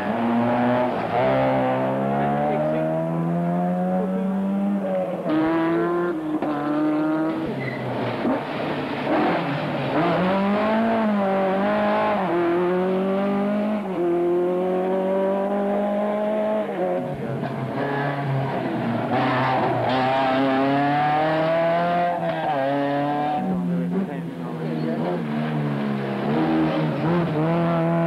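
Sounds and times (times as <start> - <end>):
rally car engines accelerating: 0.0 - 28.0.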